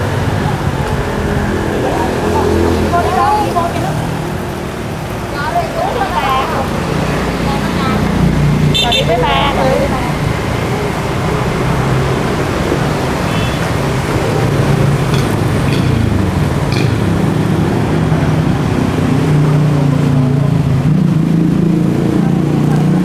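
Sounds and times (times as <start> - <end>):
motorbike engines passing: 0.0 - 23.0
steady street hiss: 0.0 - 23.0.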